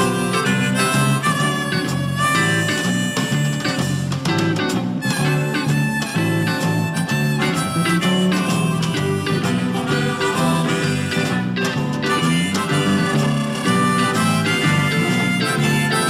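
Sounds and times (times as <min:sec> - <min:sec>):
clarinet melody: 0:00.0 - 0:16.0
electric guitars: 0:00.0 - 0:16.0
strummed acoustic guitar: 0:00.0 - 0:16.0.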